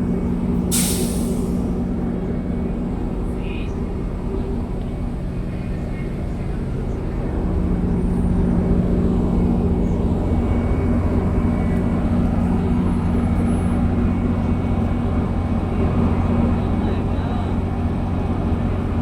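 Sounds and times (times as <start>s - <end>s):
diesel locomotive droning: 0.0s - 19.0s.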